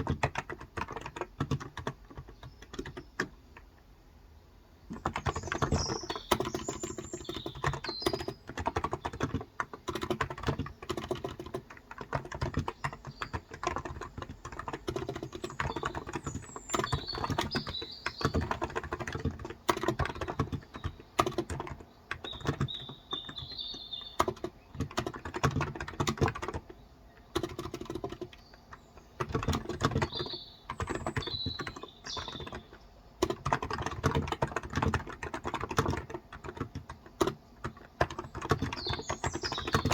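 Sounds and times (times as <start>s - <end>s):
birds chirping: 4.8s - 36.0s, 36.6s - 39.9s
keyboard key clicks: 4.9s - 39.9s.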